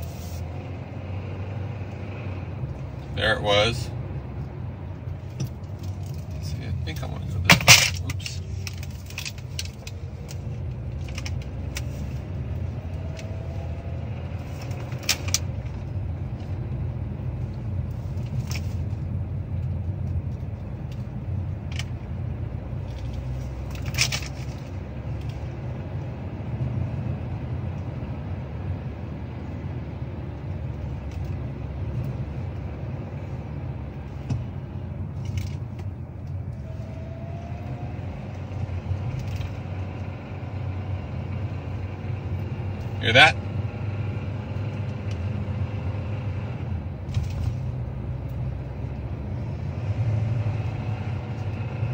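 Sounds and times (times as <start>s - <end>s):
car cabin road rumble: 0.0s - 51.9s.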